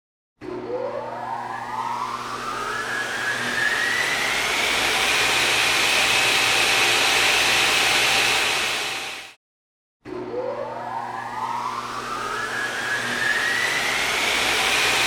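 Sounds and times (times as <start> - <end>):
motor whine spinning up: 0.4 - 9.4, 10.0 - 15.0.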